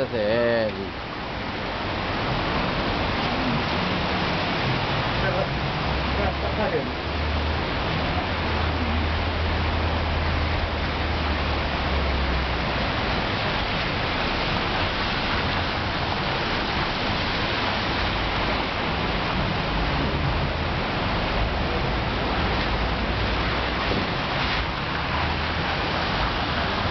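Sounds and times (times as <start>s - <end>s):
cars splashing through water: 0.0s - 26.9s
heavy rain hissing: 0.0s - 26.9s.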